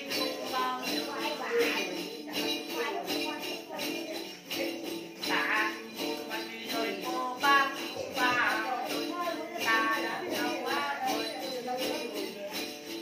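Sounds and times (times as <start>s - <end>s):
jingle bells shaken: 0.0s - 13.0s
man singing: 0.0s - 13.0s
plucked lute: 0.0s - 13.0s.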